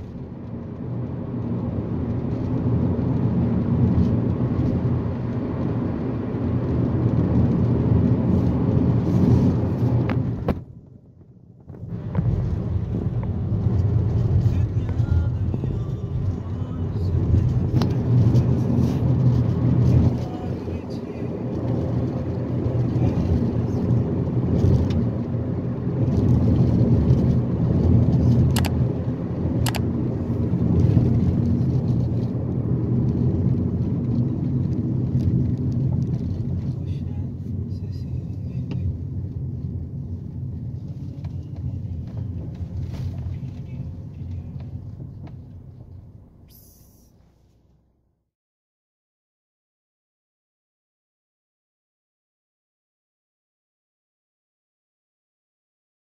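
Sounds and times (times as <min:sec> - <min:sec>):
car engine and tyre rumble: 0:00.0 - 0:48.3.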